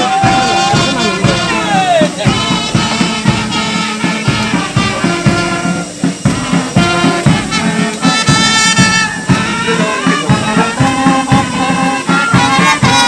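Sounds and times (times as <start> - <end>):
brass band playing march: 0.0 - 13.0
steady drum beat: 0.0 - 13.0.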